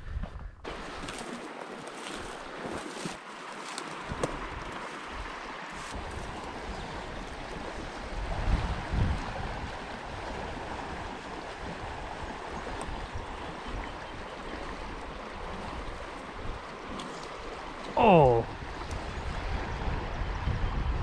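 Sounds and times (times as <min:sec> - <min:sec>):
stream water rushing: 0:00.7 - 0:20.5.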